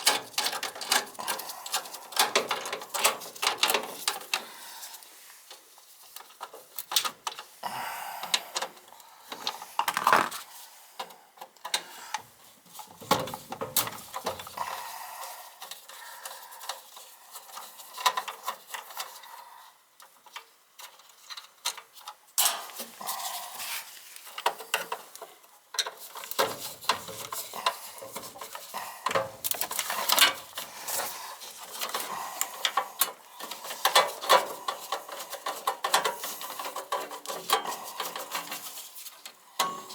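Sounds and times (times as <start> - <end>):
clicks and rattles of wiring work: 0.0 - 7.5, 11.0 - 14.7, 15.6 - 39.9.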